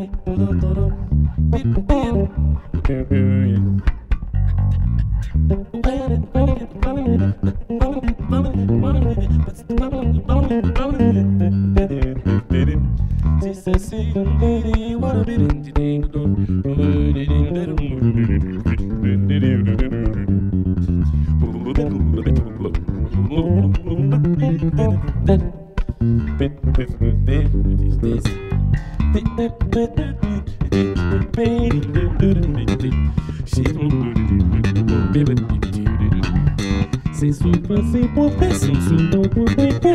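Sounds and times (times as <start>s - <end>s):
electric basses playing groove: 0.0s - 39.9s.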